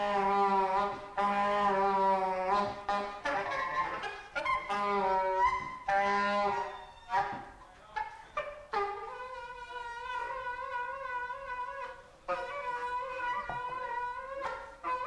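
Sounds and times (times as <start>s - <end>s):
wind instrument long notes: 0.0s - 7.6s, 8.7s - 15.0s.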